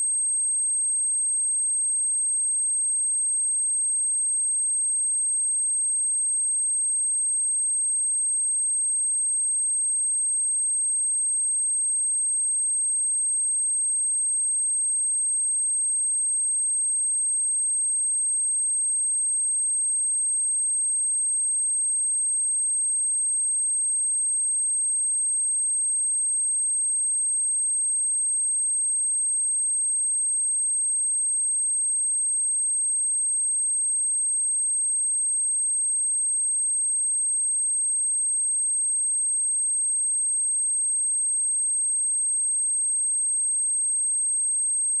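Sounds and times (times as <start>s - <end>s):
high-pitched sine-wave test tone: 0.0s - 45.0s.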